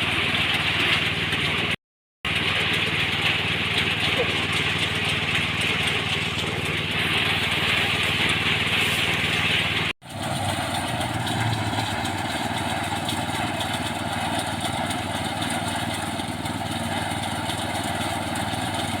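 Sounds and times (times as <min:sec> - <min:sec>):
small threshing machine engine: 0:00.0 - 0:19.0.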